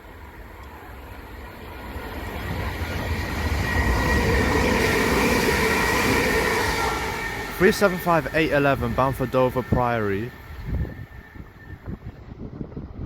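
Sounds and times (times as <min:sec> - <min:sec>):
electric train passing: 0:00.0 - 0:13.0
train whining tones: 0:00.0 - 0:13.0.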